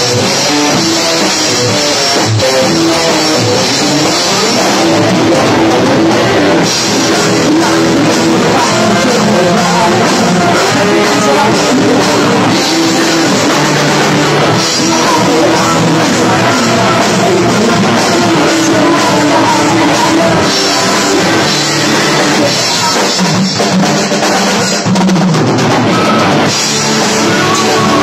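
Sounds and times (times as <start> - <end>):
person singing: 0.0 - 23.8, 25.8 - 28.0
live rock band: 0.0 - 28.0.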